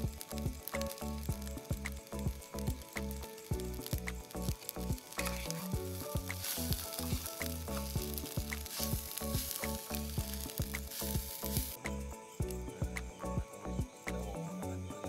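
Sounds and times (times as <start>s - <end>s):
background music with beat: 0.0s - 15.0s
rice sizzling in a wok: 0.0s - 15.0s.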